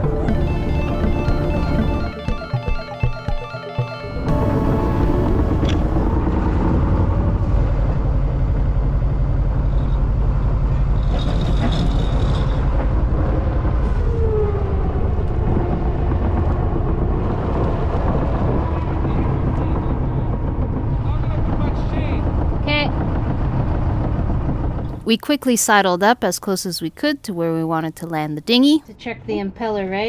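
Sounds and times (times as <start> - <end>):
boat engine rumbling: 0.0 - 28.5.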